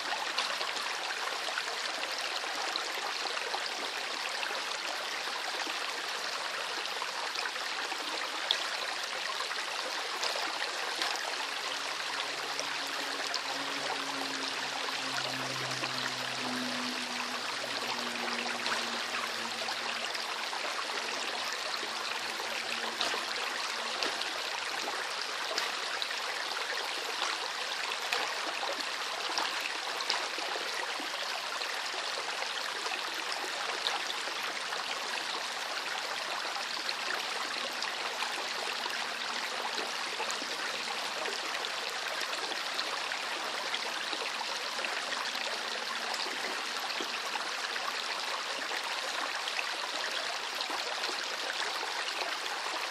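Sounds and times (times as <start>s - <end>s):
river water babbling: 0.0s - 52.9s.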